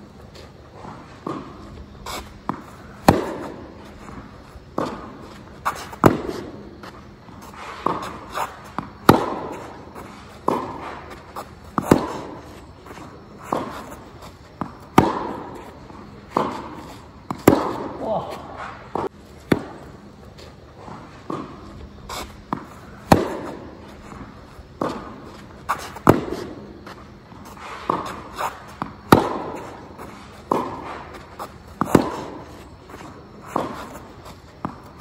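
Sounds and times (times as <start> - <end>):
racket striking tennis ball: 0.4 - 35.0
ball bouncing on court: 1.2 - 20.1, 20.8 - 35.0.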